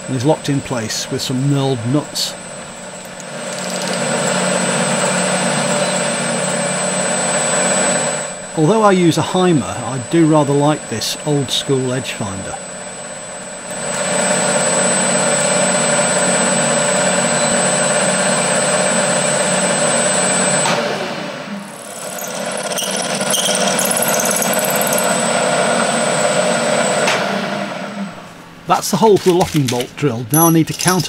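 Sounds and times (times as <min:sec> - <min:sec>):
milling machine motor whine: 0:00.0 - 0:28.6.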